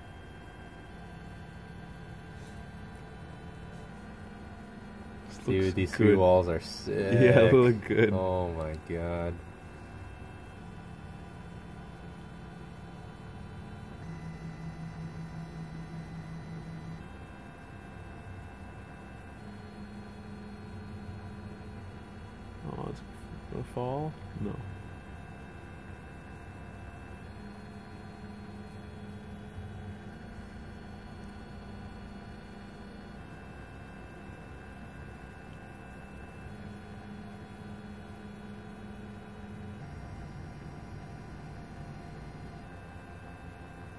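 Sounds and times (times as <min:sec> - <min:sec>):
printer motor hum: 0:00.0 - 0:43.9.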